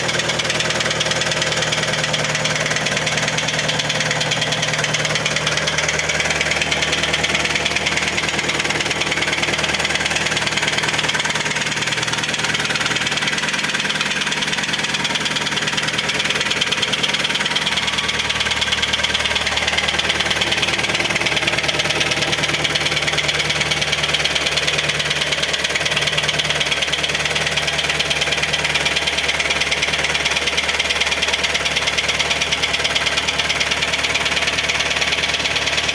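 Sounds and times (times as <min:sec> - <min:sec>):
car engine idling: 0:00.0 - 0:35.9
engine knocking: 0:00.0 - 0:35.9.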